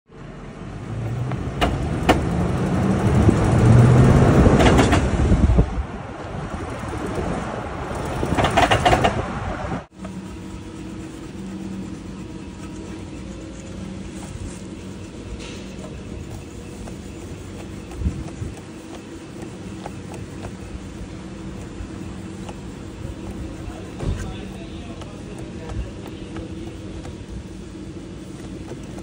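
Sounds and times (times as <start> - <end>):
vehicle rumble on asphalt: 0.1 - 29.0.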